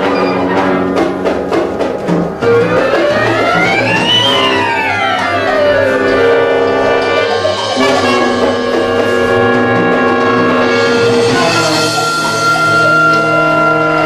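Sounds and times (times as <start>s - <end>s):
small orchestra playing: 0.0s - 14.0s.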